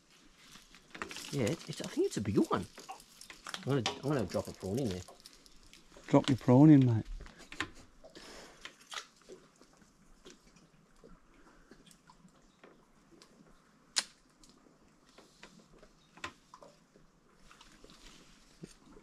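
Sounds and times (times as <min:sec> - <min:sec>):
water clicks and drips: 0:00.7 - 0:19.0.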